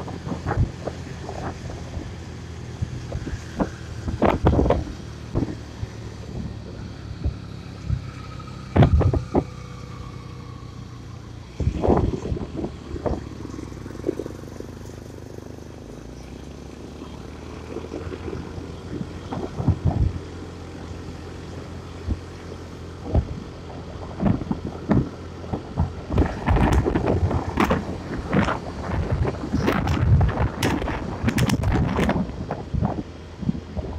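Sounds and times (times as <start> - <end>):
wind buffeting microphone: 0.0 - 15.1, 17.4 - 33.9
motorcycle engine running: 0.0 - 33.9.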